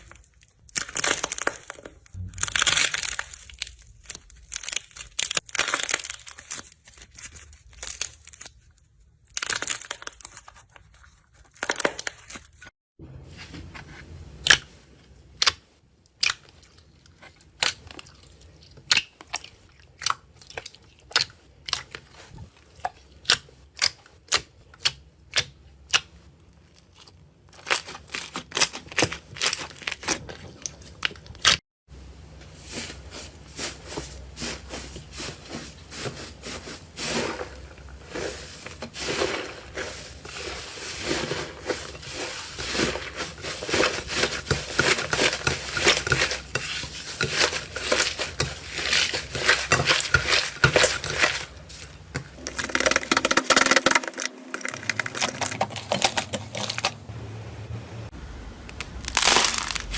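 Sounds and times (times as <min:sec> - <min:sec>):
slime crackling and crunching: 0:00.0 - 0:12.7, 0:16.1 - 0:31.6, 0:32.6 - 0:57.1, 0:58.7 - 0:59.9.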